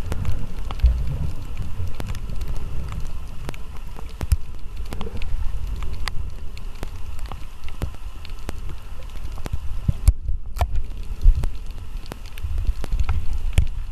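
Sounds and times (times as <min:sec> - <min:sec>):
muffled underwater rumble: 0:00.0 - 0:13.9
sharp clicks and crackles: 0:00.0 - 0:13.9.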